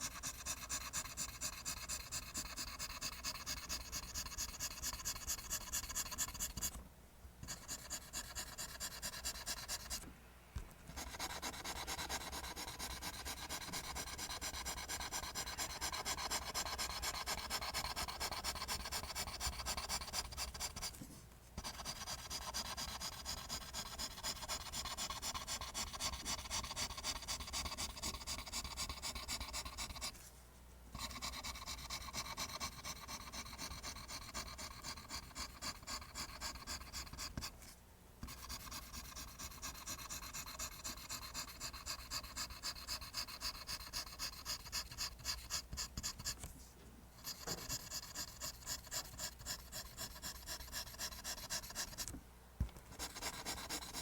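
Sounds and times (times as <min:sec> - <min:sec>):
pencil scratching on paper: 0:00.0 - 0:06.8, 0:07.4 - 0:10.0, 0:10.9 - 0:21.0, 0:21.6 - 0:30.3, 0:31.0 - 0:46.5, 0:47.2 - 0:52.1, 0:52.9 - 0:54.0.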